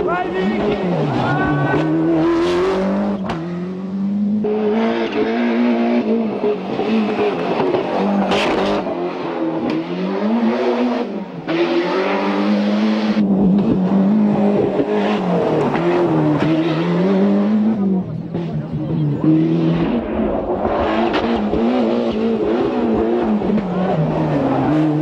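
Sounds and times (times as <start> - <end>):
rally car engine revving hard: 0.0 - 25.0.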